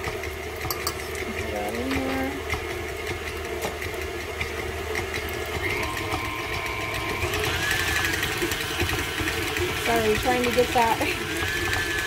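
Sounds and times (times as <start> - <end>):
stand mixer motor humming: 0.0 - 12.0.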